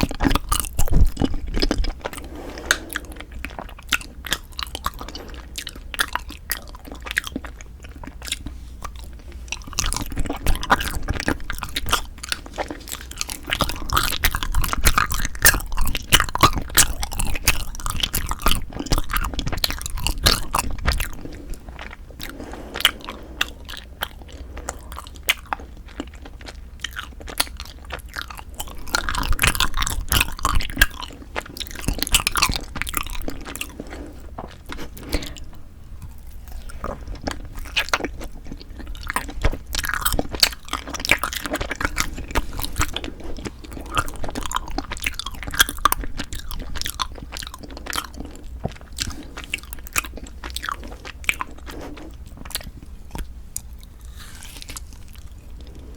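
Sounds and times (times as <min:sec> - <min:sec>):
chewing crunchy rice cakes: 0:00.0 - 0:55.9.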